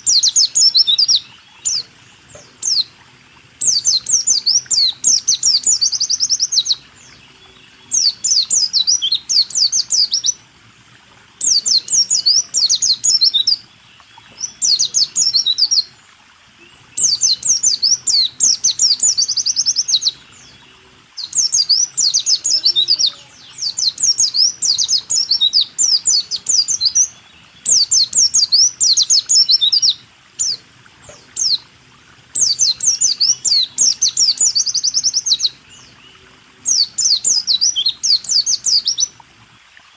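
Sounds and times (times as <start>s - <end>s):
bird song with rapid chirps and trills: 0.0s - 10.4s, 11.4s - 31.6s, 32.4s - 39.2s.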